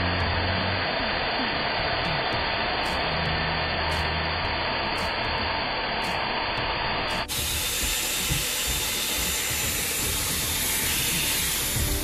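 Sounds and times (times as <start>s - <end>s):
hair styler blowing air: 0.0s - 12.0s.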